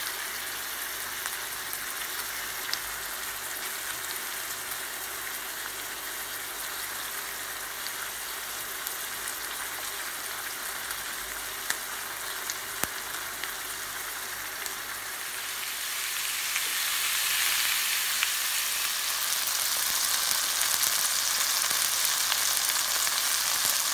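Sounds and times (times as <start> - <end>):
steak sizzling in frying pan: 0.0 - 23.9.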